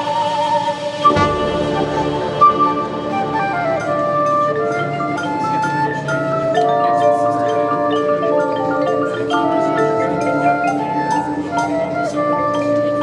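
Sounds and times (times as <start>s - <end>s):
mallet percussion notes: 0.0s - 13.0s
marching band playing: 0.6s - 12.9s.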